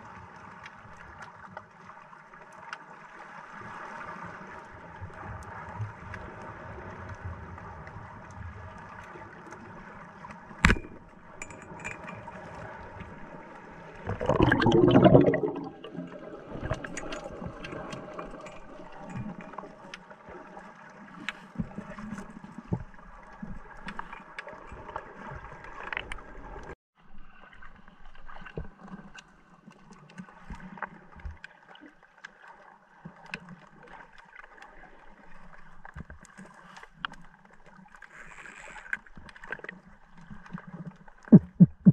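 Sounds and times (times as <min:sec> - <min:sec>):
crackling clicks underwater: 0:05.0 - 0:26.8, 0:28.3 - 0:41.9.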